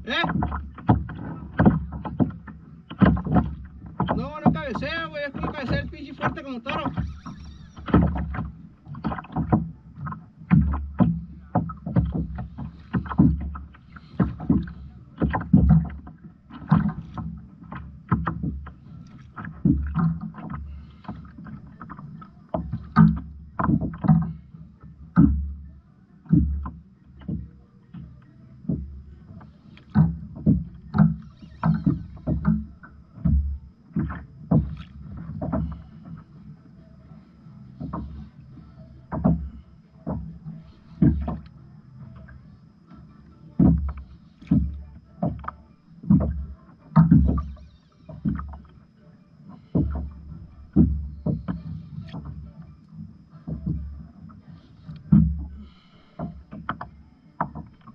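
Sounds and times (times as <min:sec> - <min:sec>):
knocks and splashes against kayak hull: 0:00.0 - 0:57.9.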